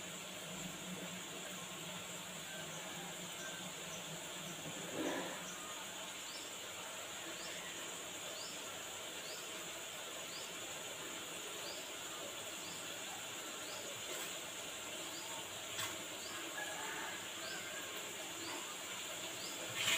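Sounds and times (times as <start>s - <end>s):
background hiss: 0.0s - 19.9s.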